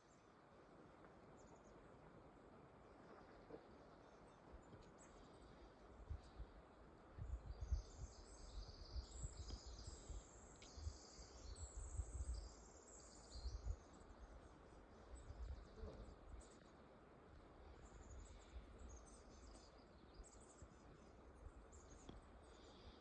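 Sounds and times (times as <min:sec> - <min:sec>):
songbird chirps and trills: 0:00.0 - 0:23.0.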